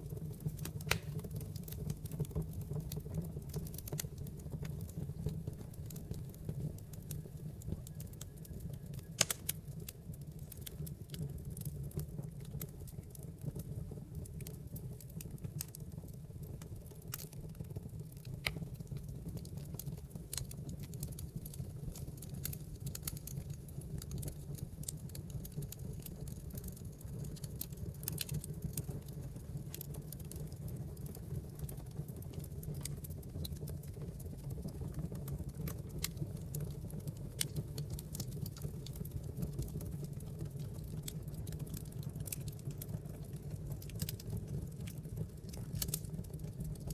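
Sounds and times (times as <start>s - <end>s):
burning logs crackling: 0.0s - 46.9s
fire flames rumbling: 0.0s - 46.9s.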